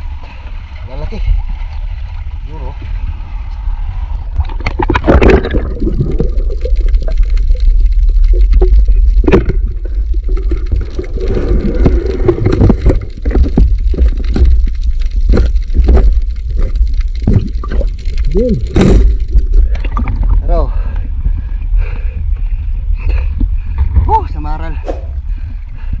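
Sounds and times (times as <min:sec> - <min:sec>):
low rumble: 0:00.0 - 0:26.0
water sloshing and gurgling: 0:00.0 - 0:26.0.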